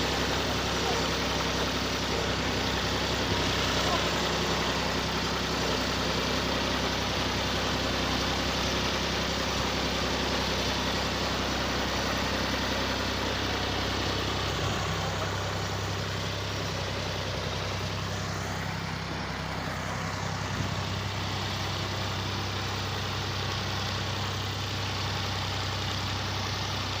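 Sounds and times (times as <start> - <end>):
rotavator mechanical clatter: 0.0 - 26.0
tractor diesel engine running: 0.0 - 27.0.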